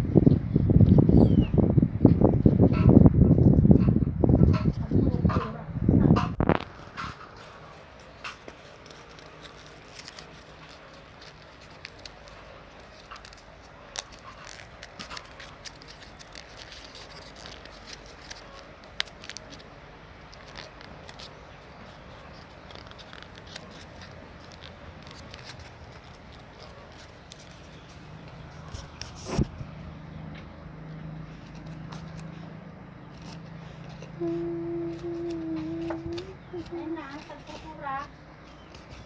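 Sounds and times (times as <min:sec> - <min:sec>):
paper crackling: 0:06.3 - 0:39.0.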